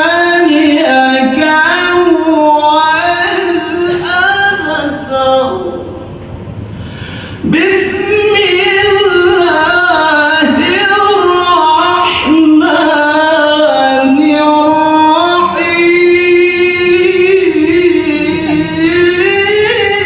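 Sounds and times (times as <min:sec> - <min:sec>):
man reciting melodically: 0:00.0 - 0:06.1, 0:07.2 - 0:20.0.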